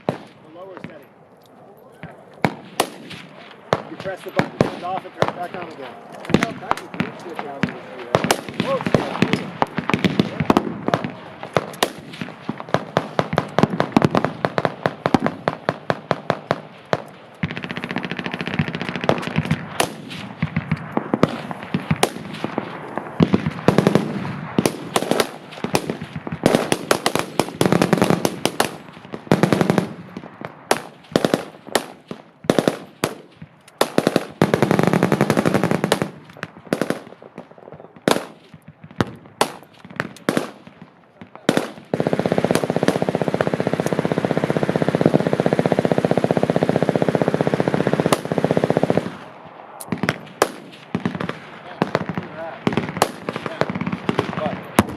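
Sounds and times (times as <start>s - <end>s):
machine guns firing: 0.0s - 1.1s, 2.0s - 54.9s.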